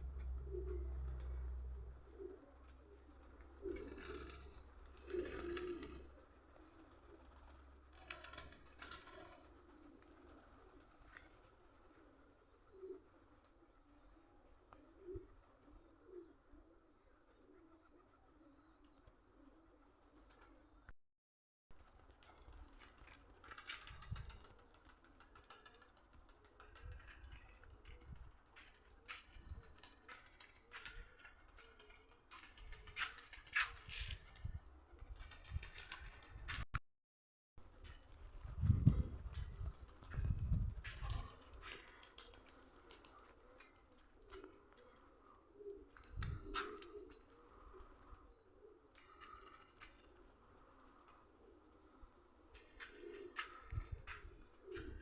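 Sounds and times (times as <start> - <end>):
birds cooing softly: 0.0 - 20.9, 21.9 - 36.5, 37.7 - 55.0.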